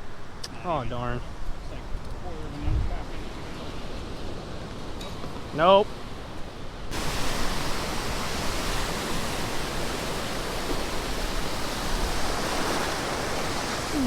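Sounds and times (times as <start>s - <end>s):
ocean surf washing: 0.0s - 14.0s.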